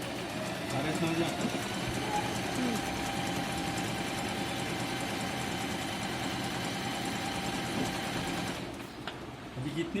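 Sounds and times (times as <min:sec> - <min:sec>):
sewing machine stitching: 0:00.0 - 0:08.8.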